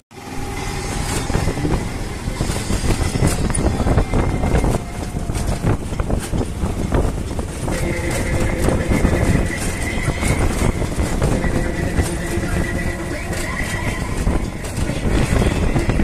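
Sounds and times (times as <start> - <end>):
auto-rickshaw engine running: 0.1 - 16.0
rattling of vehicle body: 0.9 - 16.0.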